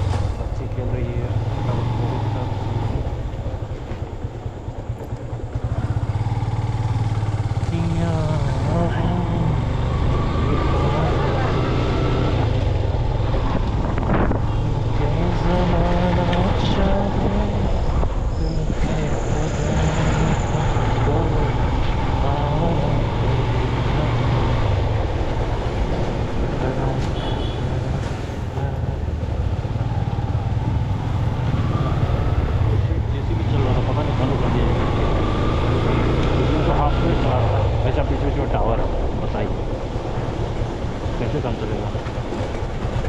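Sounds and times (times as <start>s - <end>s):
motorbike engine and road noise: 0.0s - 43.0s
vehicles passing: 0.0s - 43.0s.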